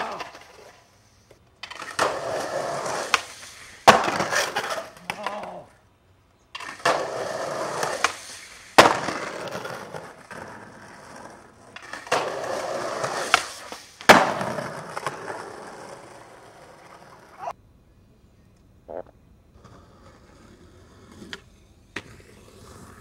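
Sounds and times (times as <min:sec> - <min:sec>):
skateboard cracking on ground: 0:00.0 - 0:05.8, 0:06.5 - 0:17.6, 0:19.6 - 0:23.0
skateboard wheels rolling on stone: 0:00.0 - 0:05.8, 0:06.5 - 0:17.6, 0:19.5 - 0:23.0.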